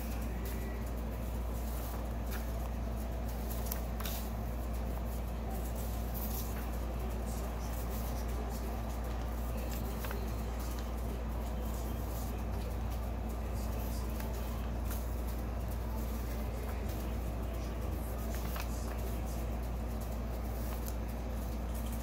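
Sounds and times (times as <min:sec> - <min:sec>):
paper pages rustling: 0:00.0 - 0:22.0
steady low hum: 0:00.0 - 0:22.0.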